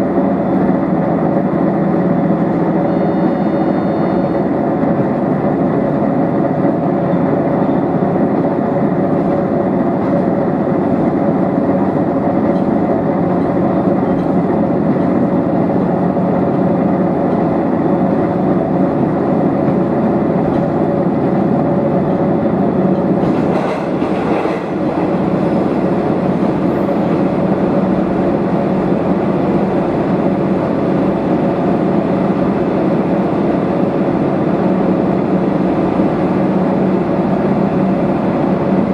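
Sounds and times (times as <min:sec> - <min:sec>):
railcar engine drone: 0:00.0 - 0:38.9
train wheel and rail noise: 0:00.0 - 0:38.9.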